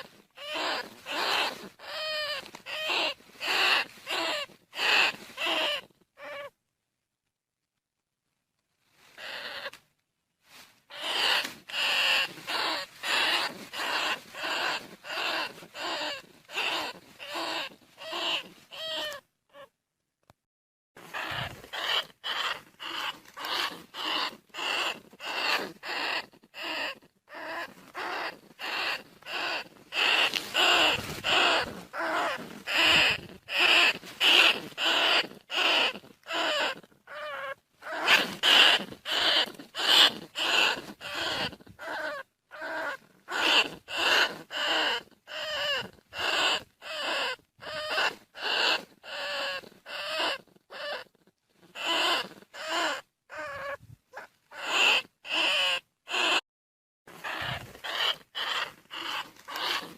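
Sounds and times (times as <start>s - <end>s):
rat squeaking: 0.0s - 6.5s, 9.2s - 9.8s, 10.9s - 19.7s, 21.0s - 56.4s, 57.1s - 59.9s.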